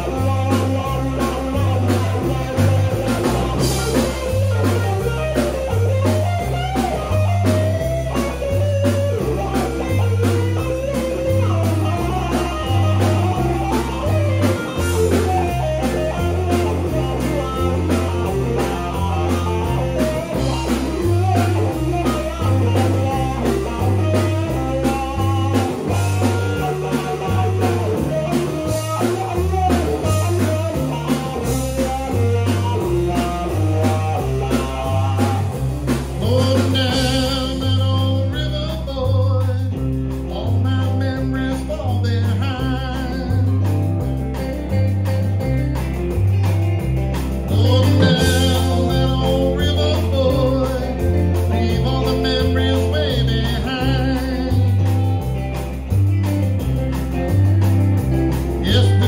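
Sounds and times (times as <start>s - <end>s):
blues band playing live: 0.0s - 59.0s.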